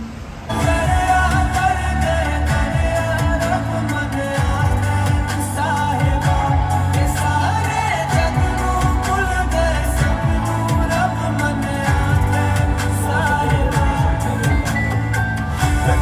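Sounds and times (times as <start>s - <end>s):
pop song with singing: 0.5s - 16.0s
steady bass beat: 0.5s - 16.0s.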